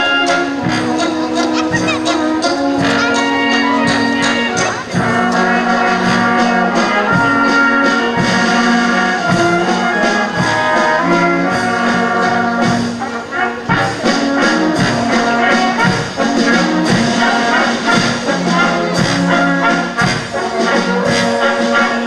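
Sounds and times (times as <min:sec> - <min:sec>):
brass band playing a waltz: 0:00.0 - 0:22.0
tuba bass: 0:00.0 - 0:22.0.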